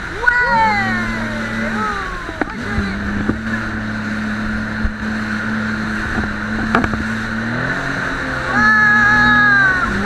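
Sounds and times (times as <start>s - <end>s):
jet ski engine running: 0.0s - 10.0s
rushing water and wind: 0.0s - 10.0s.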